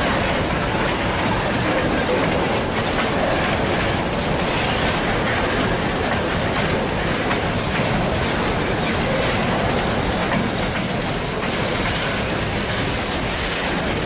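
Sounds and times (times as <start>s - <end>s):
train wheels rumbling on rails: 0.0s - 14.0s
wheels clickety-clack: 0.0s - 14.0s.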